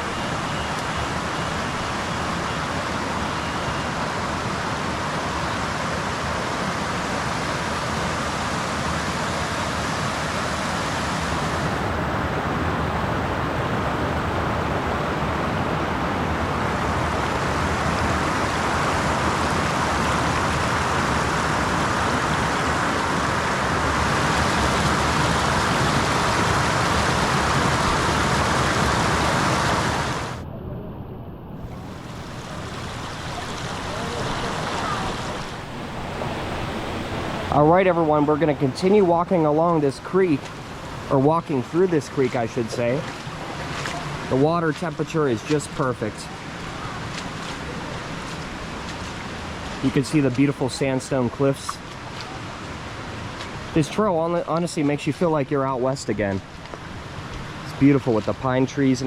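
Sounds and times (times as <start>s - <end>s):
river water pouring over waterfall: 0.0s - 30.4s, 31.7s - 59.0s.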